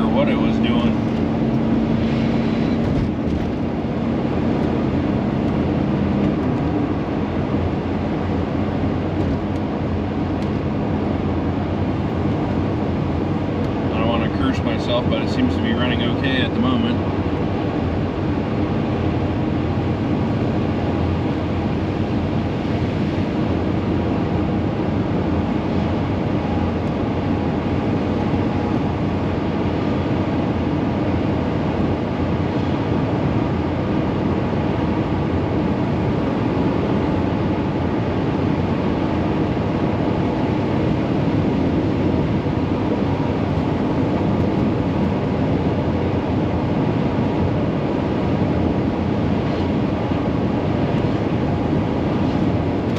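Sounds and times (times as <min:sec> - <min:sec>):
engine and road noise: 0:00.0 - 0:52.9.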